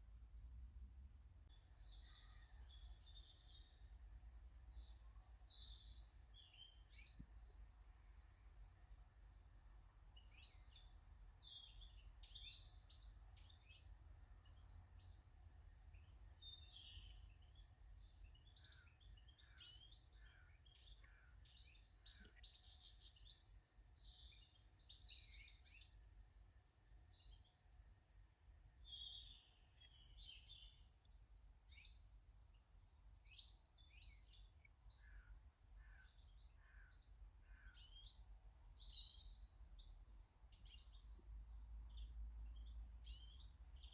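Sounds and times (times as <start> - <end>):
birds chirping and trilling: 0.5 - 43.9.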